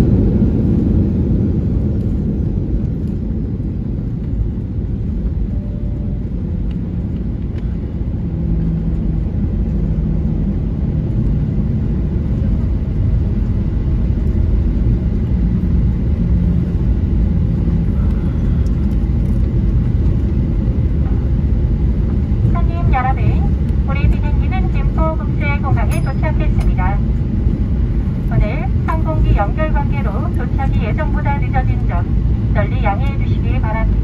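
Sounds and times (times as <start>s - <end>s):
airliner cabin rumble: 0.0s - 34.0s
plane rolling on runway: 0.0s - 34.0s.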